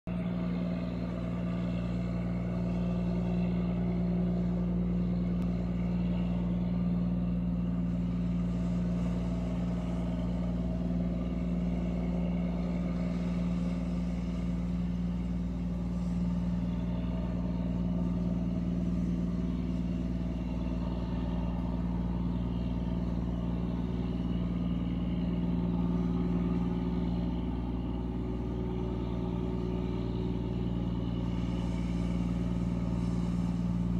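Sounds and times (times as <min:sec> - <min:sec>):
boat diesel engine droning: 0:00.0 - 0:33.9.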